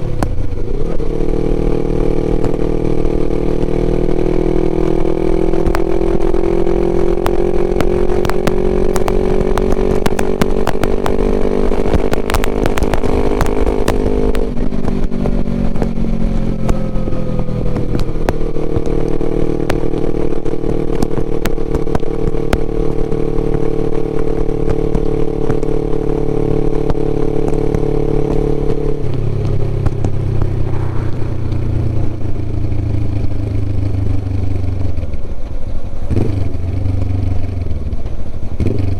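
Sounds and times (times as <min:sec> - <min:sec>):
exhaust crackles: 0:00.0 - 0:38.9
motorcycle engine revving: 0:00.0 - 0:38.9.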